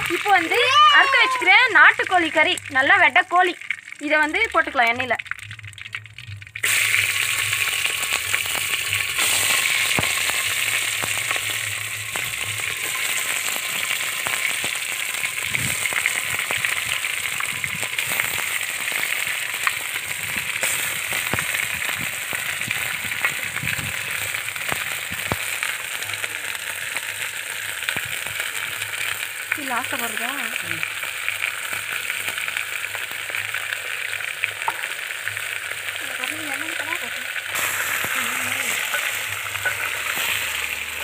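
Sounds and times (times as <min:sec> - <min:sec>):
chicken frying in hot oil: 0:00.0 - 0:41.0.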